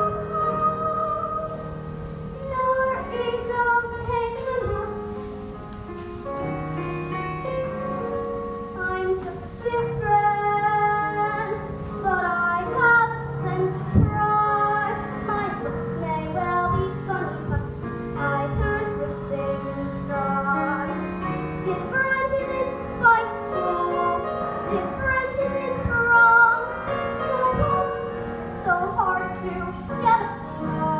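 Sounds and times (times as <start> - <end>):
girl singing: 0.0 - 5.3, 8.7 - 30.9
instrumental accompaniment: 0.0 - 30.9.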